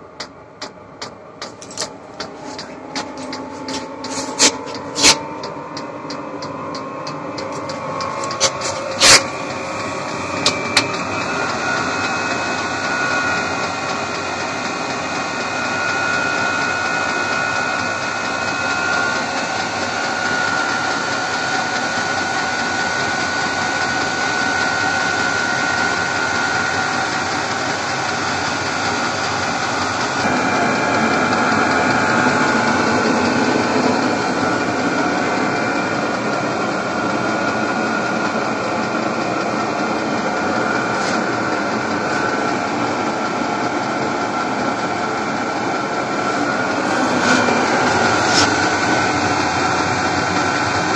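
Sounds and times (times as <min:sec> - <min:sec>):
heater blower whining: 0:00.0 - 0:50.9.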